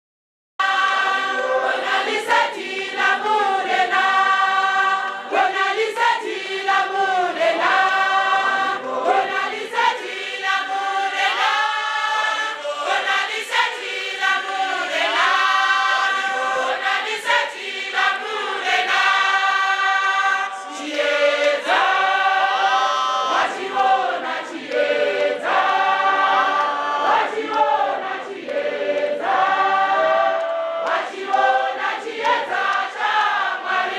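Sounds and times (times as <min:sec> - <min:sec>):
congregation singing a hymn: 0:00.6 - 0:33.9.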